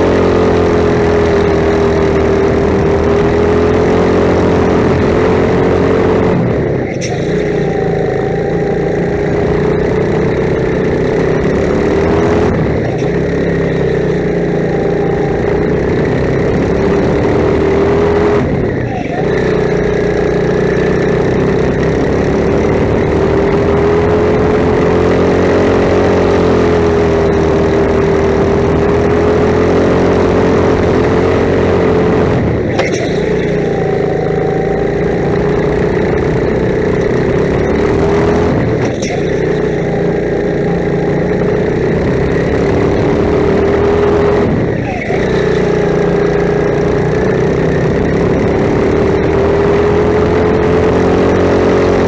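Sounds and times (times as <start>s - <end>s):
go-kart engine running hard: 0.0s - 52.0s.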